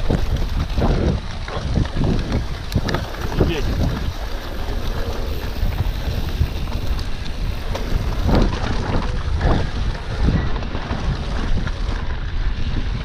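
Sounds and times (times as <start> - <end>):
tyres rumbling on dirt track: 0.0 - 13.0
wind buffeting microphone: 0.0 - 13.0.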